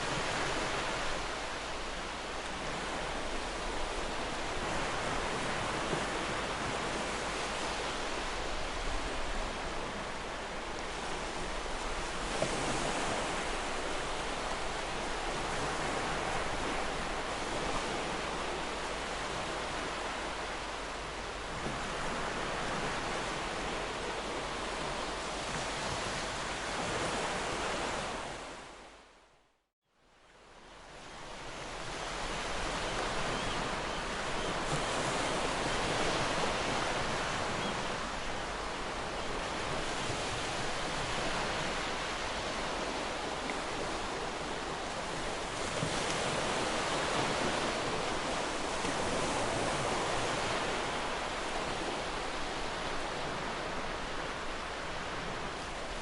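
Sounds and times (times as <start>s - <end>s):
sea waves washing on shore: 0.0s - 29.1s, 30.3s - 56.0s.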